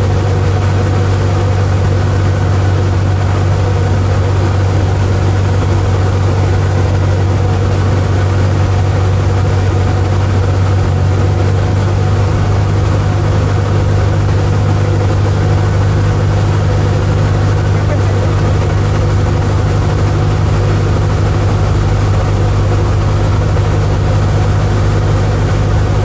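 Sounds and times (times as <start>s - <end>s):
light aircraft engine and propeller: 0.0s - 26.0s.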